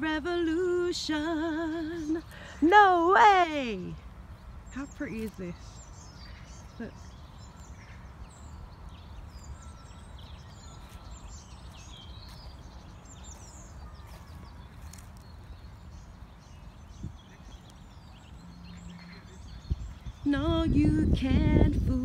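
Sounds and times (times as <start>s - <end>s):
small birds singing and chirping: 0.0s - 22.0s.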